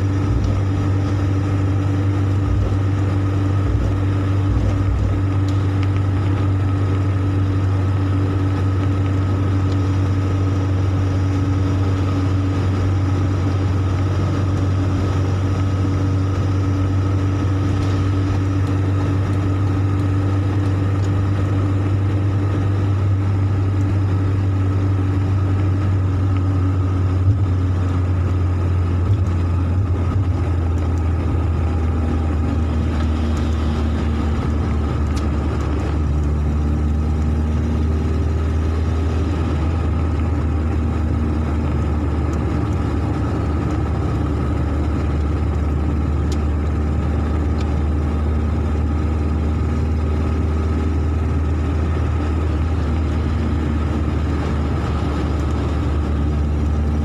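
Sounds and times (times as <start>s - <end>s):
engine and road drone: 0.0s - 57.0s.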